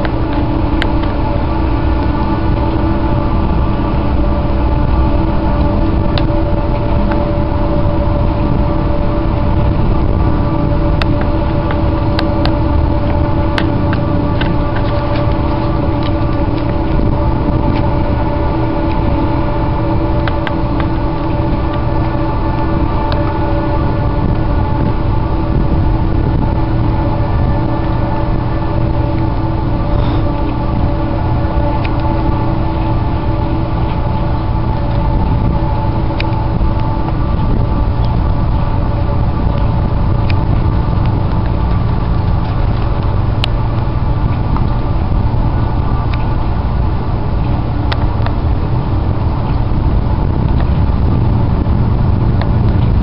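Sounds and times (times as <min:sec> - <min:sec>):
engine drone: 0:00.0 - 0:53.0
low rumble: 0:00.0 - 0:53.0.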